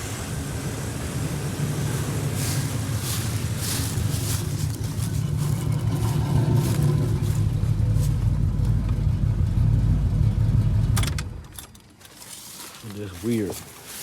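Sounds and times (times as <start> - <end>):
engine idling roughly: 0.0 - 11.5.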